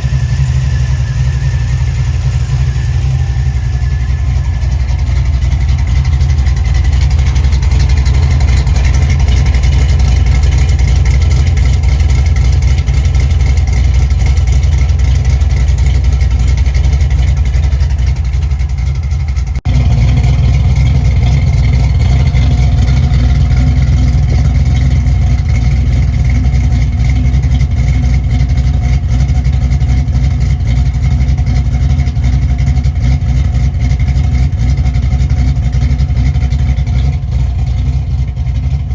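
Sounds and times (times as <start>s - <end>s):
engine deep rumble: 0.0s - 38.9s.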